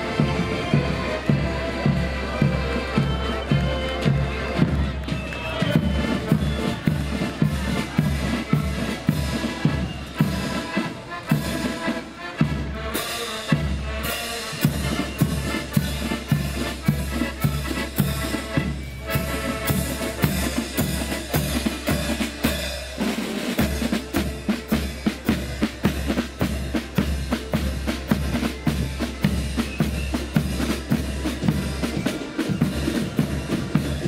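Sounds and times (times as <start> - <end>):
accordion band playing a march: 0.0 - 34.0
cymbals: 0.0 - 34.0
snare drums: 0.0 - 34.0.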